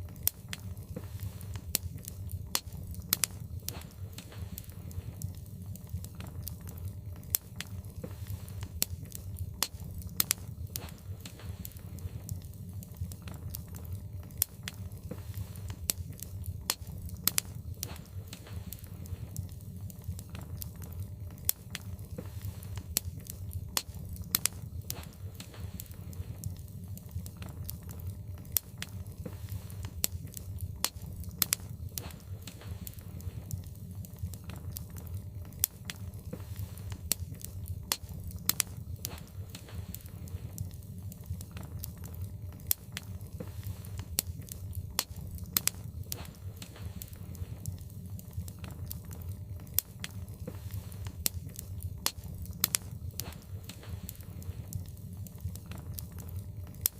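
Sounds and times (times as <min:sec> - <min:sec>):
logs crackling in fireplace: 0:00.0 - 0:56.9
low fire rumble: 0:00.0 - 0:56.9.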